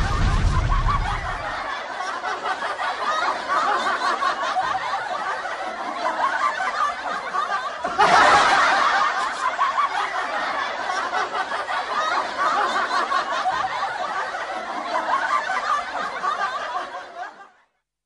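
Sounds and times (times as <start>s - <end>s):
laugh track of people laughing: 0.0s - 17.8s.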